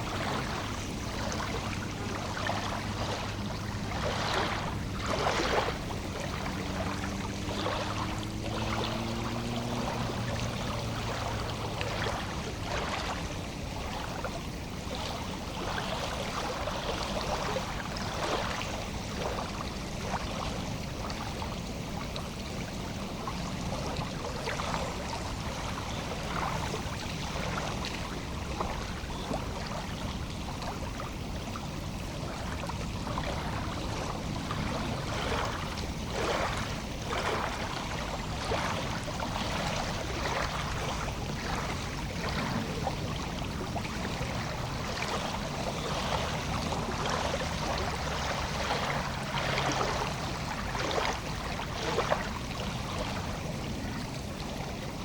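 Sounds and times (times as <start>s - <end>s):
water lapping at shore: 0.0s - 55.0s.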